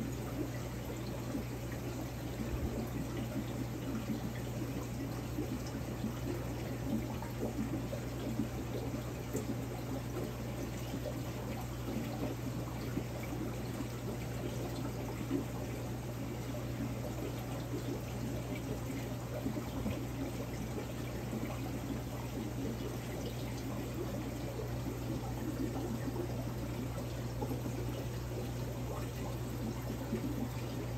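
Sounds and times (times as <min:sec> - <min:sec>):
constant low hum: 0:00.0 - 0:30.9
water bubbling and trickling: 0:00.0 - 0:30.9.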